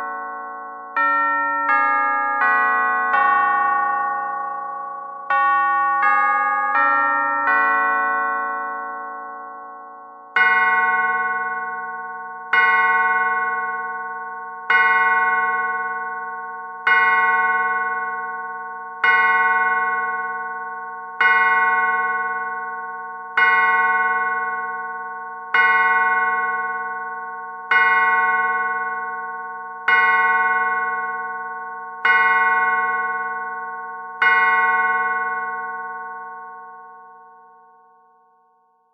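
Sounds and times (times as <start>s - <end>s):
deep clock bell strikes: 0.0s - 36.8s
clock chime tune: 0.0s - 38.7s.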